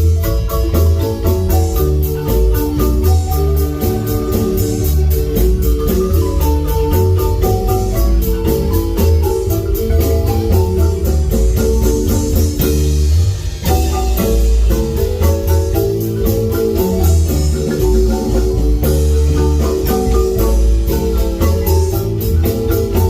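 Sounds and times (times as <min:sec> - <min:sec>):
heavy bass line: 0:00.0 - 0:23.0
high percussion ticks: 0:00.0 - 0:23.0
marimba melody: 0:00.0 - 0:23.0.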